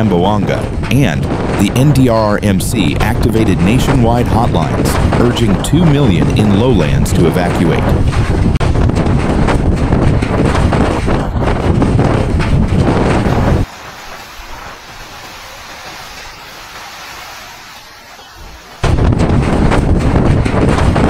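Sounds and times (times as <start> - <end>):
hiss of wind and rain: 0.0 - 21.0
wind buffeting microphone: 0.0 - 21.0.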